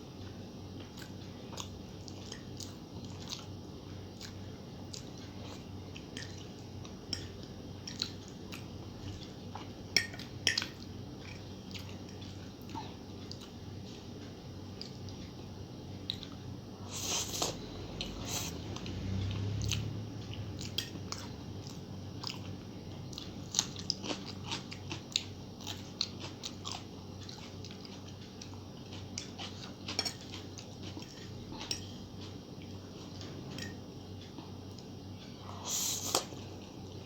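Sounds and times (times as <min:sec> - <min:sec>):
person chewing food: 0:00.1 - 0:15.4, 0:16.0 - 0:37.0.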